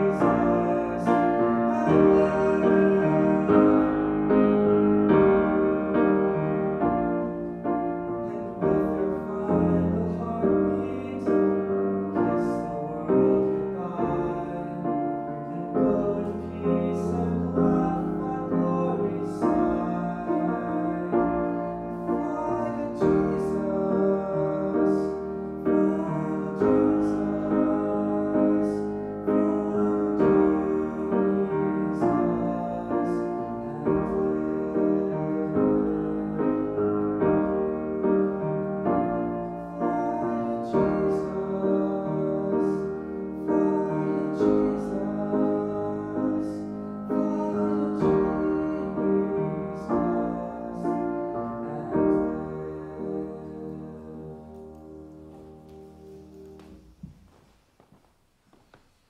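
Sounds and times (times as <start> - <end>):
man singing: 0.0 - 56.3
grand piano: 0.0 - 59.0.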